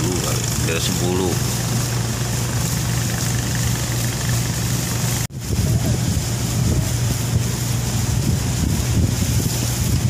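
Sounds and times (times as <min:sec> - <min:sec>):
boat engine drone: 0:00.0 - 0:10.0
water noise: 0:00.0 - 0:10.0
wind: 0:00.0 - 0:10.0.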